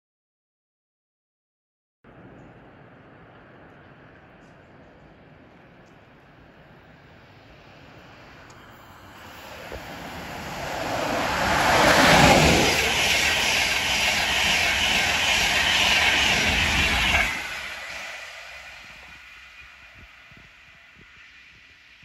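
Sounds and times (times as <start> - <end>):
train wheels rushing on rail: 2.2 - 22.0.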